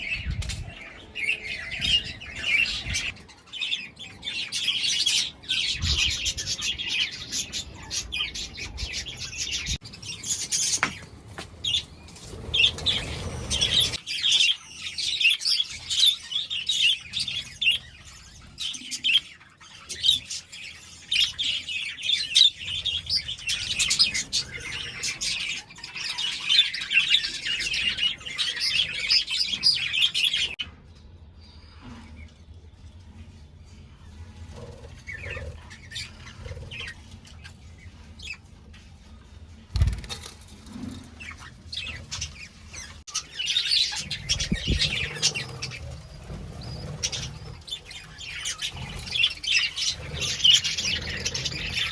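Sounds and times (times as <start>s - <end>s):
budgerigars chattering and chirping: 1.5s - 11.0s, 11.6s - 30.6s, 34.4s - 37.5s, 41.2s - 51.9s.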